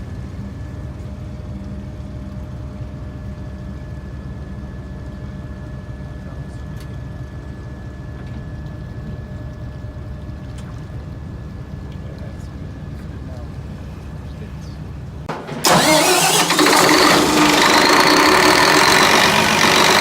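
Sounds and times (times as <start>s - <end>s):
ship engines low rumble: 0.0s - 20.0s.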